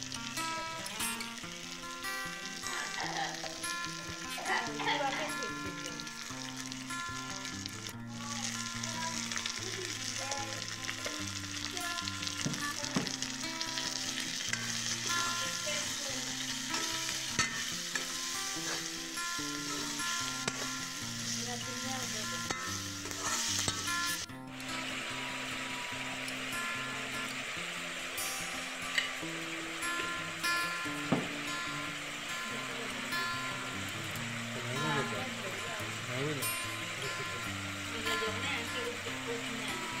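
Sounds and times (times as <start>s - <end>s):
meat and onion sizzling in oil: 0.0s - 40.0s.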